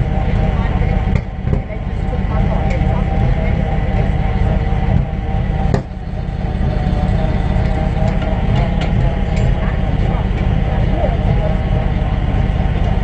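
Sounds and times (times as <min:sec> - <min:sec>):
person talking: 0:00.0 - 0:13.0
truck engine idling: 0:00.0 - 0:13.0.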